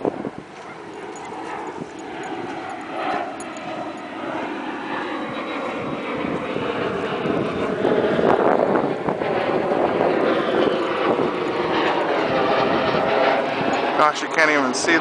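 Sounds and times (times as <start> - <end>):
jet aircraft flying over: 0.0 - 15.0.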